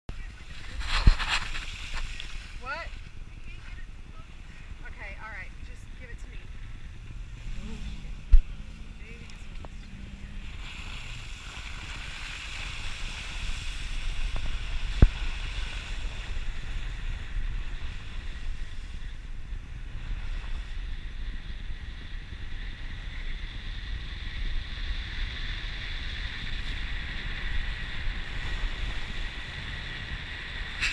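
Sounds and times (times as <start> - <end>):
low vehicle rumble: 0.1 - 30.9
wind and road noise hiss: 0.1 - 30.9.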